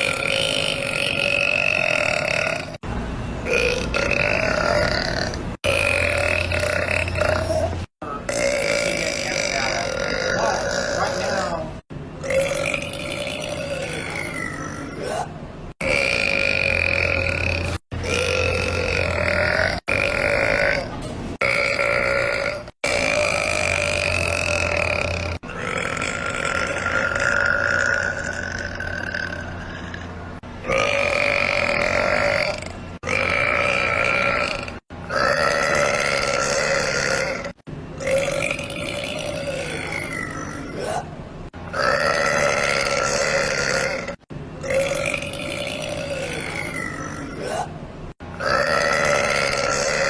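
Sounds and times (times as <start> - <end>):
long human belches: 0.0 - 2.8, 3.5 - 41.1, 41.7 - 47.8, 48.4 - 50.0.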